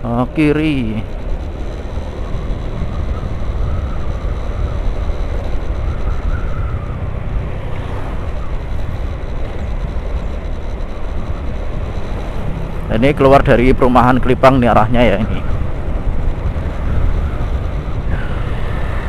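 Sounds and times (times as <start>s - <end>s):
scooter engine running: 0.0s - 19.0s
wind buffeting microphone: 0.9s - 13.2s, 14.2s - 19.0s.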